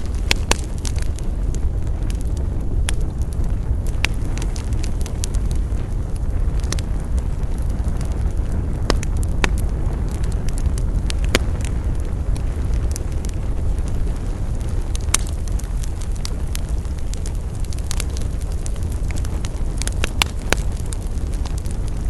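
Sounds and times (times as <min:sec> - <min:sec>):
fire crackling and popping: 0:00.0 - 0:22.0
fire low rumble: 0:00.0 - 0:22.0.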